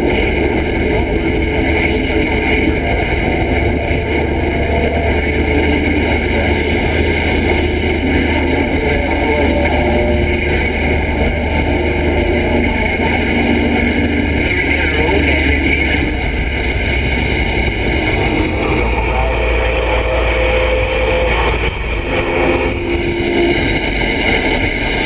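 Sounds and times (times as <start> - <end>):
garbled radio signal: 0.0 - 25.0
low hum: 0.0 - 25.0
radio static: 0.0 - 25.0.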